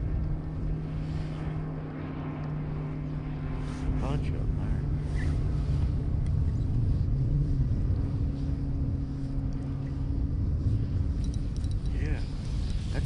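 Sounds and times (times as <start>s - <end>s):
boat motor humming: 0.0s - 13.0s
wind buffeting microphone: 0.0s - 13.0s.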